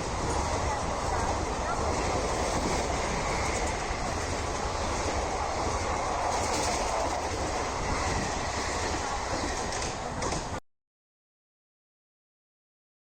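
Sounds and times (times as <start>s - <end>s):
train wheels rumbling and clattering: 0.0s - 10.6s.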